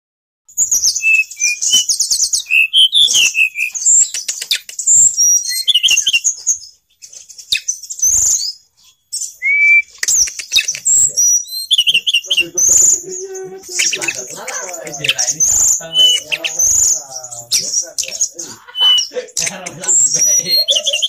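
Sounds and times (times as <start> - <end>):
bird singing whistles and trills: 0.6 - 21.0.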